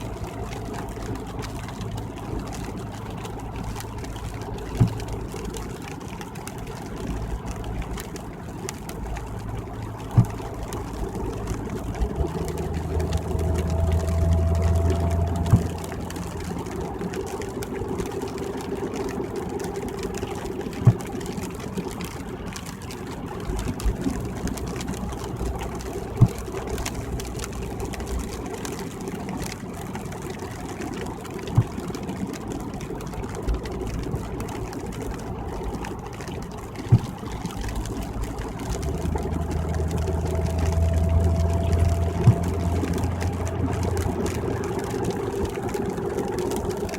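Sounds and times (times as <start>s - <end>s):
road and tyre rumble: 0.0s - 46.9s.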